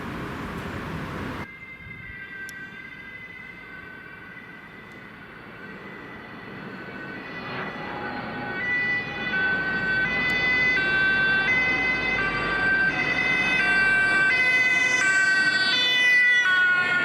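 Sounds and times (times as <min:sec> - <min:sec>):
distant emergency sirens: 0:00.0 - 0:17.0.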